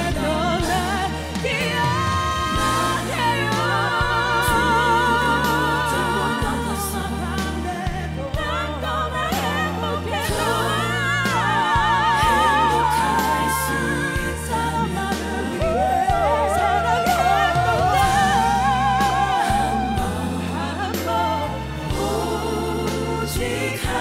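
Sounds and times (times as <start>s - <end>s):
bass line: 0.0s - 24.0s
women singing in harmony: 0.0s - 24.0s.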